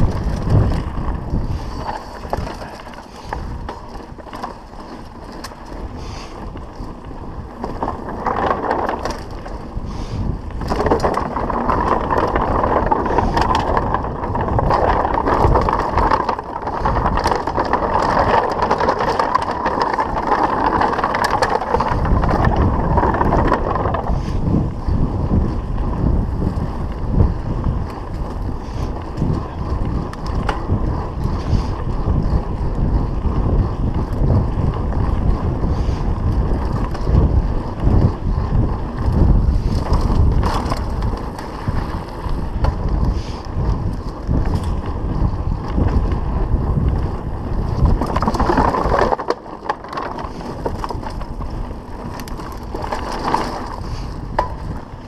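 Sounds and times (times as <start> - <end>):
bicycle tyre noise on dirt: 0.0 - 55.0
bike rattling and knocking: 0.0 - 55.0
wind rumbling on microphone: 0.0 - 55.0.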